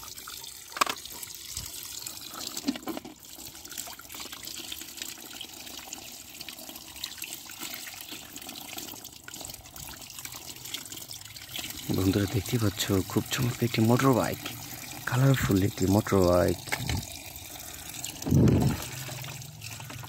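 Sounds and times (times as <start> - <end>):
water splashing over plastic toys: 0.0 - 5.4, 7.4 - 20.0
tap water running into tub: 0.0 - 20.0.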